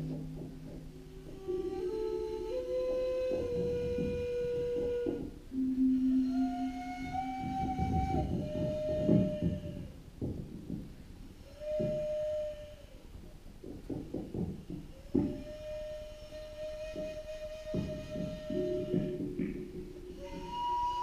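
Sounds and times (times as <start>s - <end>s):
flute-like wind instrument notes: 0.0s - 10.2s, 11.4s - 13.4s, 14.6s - 21.0s.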